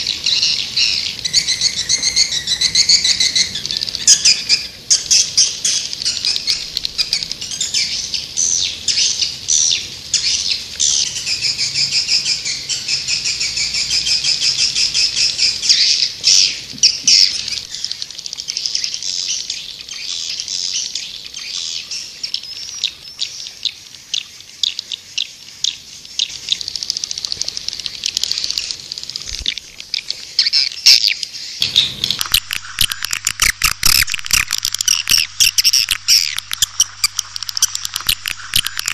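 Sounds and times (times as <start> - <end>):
birds twittering chorus: 0.0 - 38.9.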